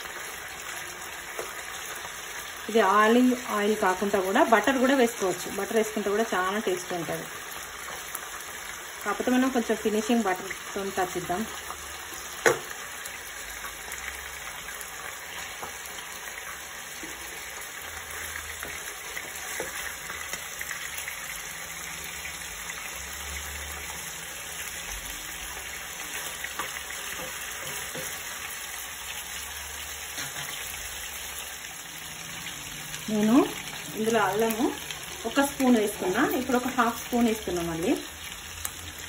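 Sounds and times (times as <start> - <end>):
chicken sizzling in a pan: 0.0 - 39.0.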